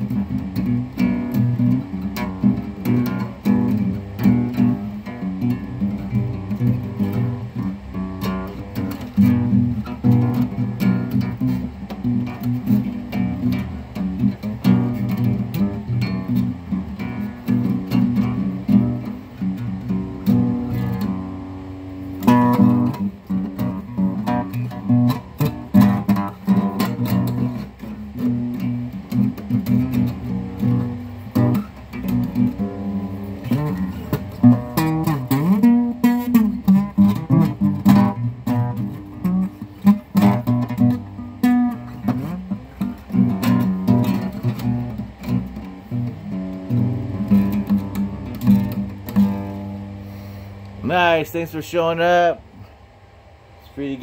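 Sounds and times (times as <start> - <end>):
plucked guitar notes: 0.0 - 52.7.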